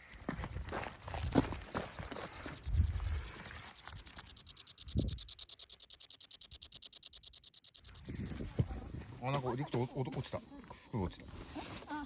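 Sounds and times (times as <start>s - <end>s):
cicada buzzing: 0.0s - 11.1s.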